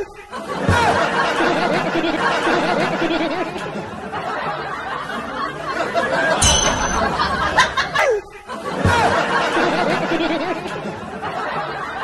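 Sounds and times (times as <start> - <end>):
voices chattering and laughing: 0.0 - 12.0.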